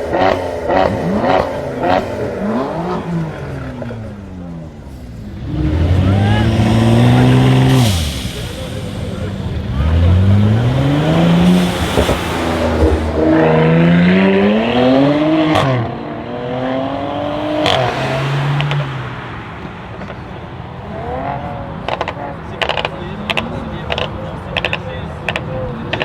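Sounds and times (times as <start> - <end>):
car engine accelerating hard: 0.0 - 26.0
sharp exhaust crack: 0.0 - 26.0.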